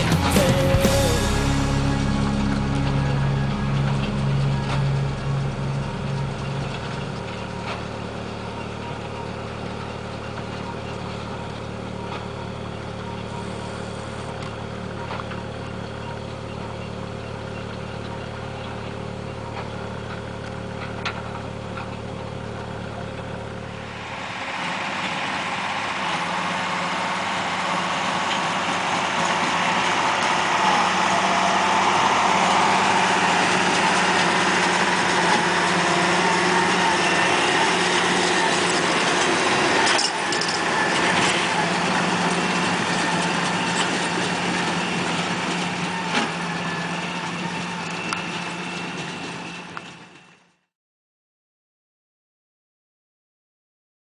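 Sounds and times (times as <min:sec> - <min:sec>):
higher-pitched engine sound: 0:00.0 - 0:15.4, 0:20.9 - 0:50.2
tractor diesel engine idling: 0:00.0 - 0:50.2.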